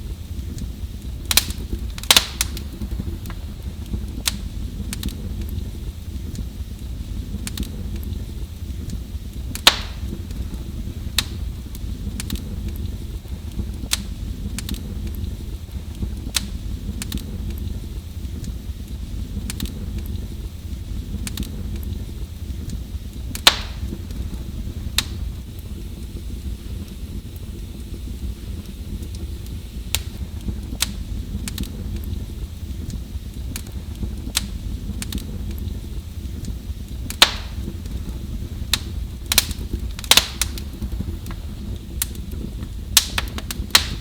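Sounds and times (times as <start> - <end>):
fire crackling: 0.0 - 44.0
fire flames rumbling: 0.0 - 44.0
fire popping: 0.0 - 44.0.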